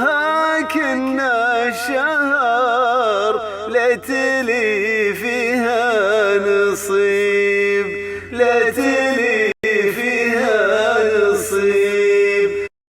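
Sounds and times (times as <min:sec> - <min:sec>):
man singing a chant: 0:00.0 - 0:12.7.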